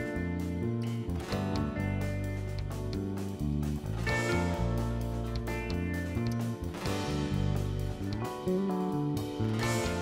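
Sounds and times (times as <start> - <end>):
bass notes: 0.0 - 10.0
guitar music: 0.0 - 10.0.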